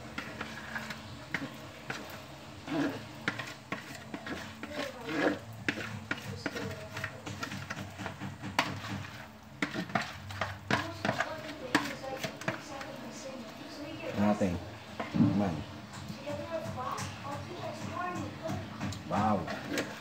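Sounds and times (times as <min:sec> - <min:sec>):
metal spoon scraping plastic bowl: 0:00.0 - 0:13.2, 0:16.0 - 0:20.0.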